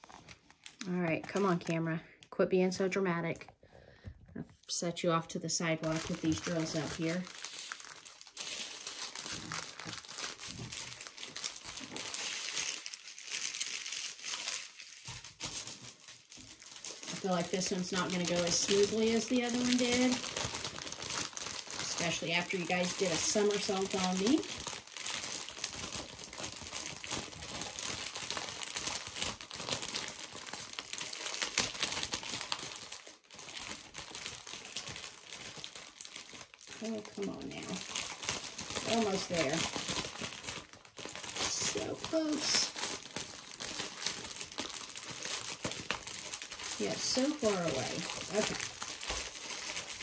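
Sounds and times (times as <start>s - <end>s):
plastic bags crinkling: 0.0s - 1.8s, 5.6s - 50.0s.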